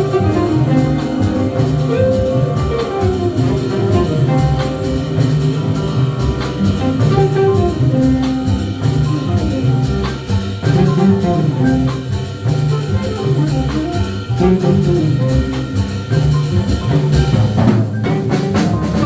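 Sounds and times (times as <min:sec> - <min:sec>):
drum kit: 0:00.0 - 0:19.0
sustained melody notes: 0:00.0 - 0:19.0
walking bass line: 0:00.0 - 0:19.0.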